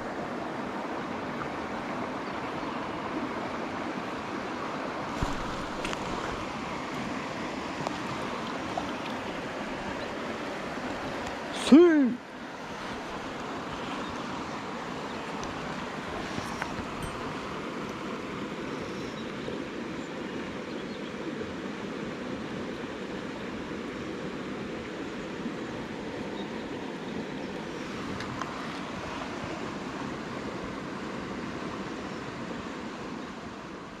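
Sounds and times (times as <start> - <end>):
stream water flowing: 0.0 - 34.0.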